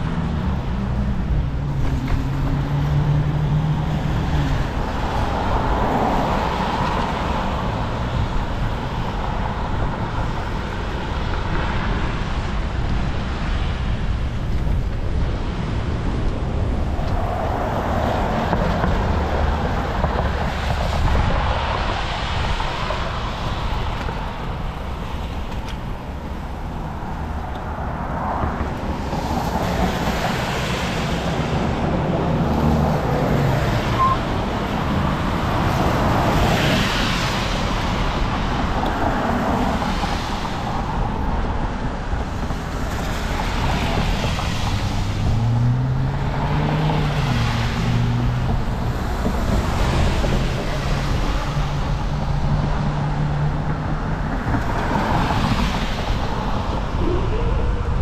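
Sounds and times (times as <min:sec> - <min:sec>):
low wind rumble on microphone: 0:00.0 - 0:58.0
road traffic passing: 0:00.0 - 0:58.0.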